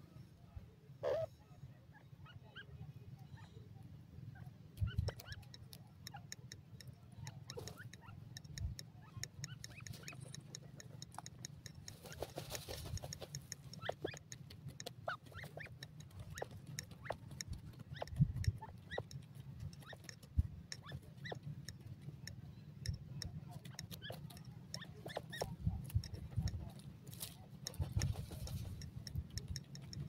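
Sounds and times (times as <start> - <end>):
birds chirping faintly: 0.0 - 30.0
soft clicks and ticks: 4.3 - 30.0.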